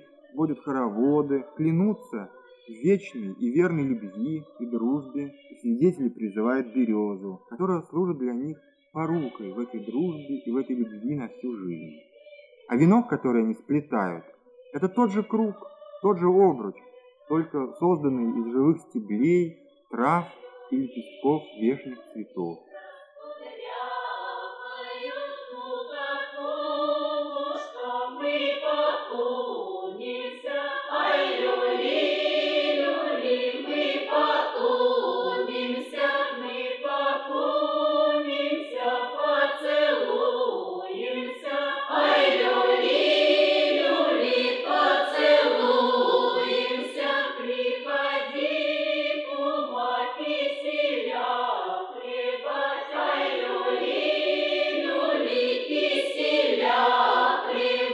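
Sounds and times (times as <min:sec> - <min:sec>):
girls' choir singing unaccompanied: 0:00.0 - 0:57.9.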